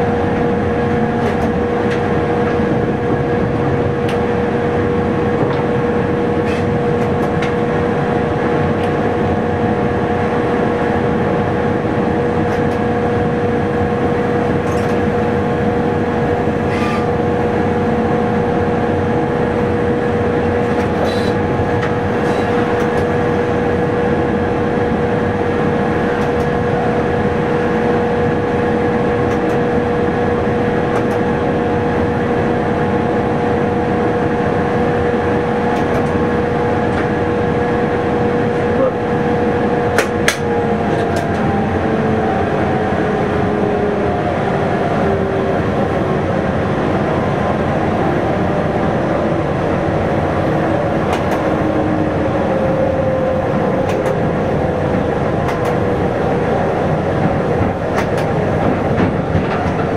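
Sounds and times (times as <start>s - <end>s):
train running drone: 0.0s - 59.9s.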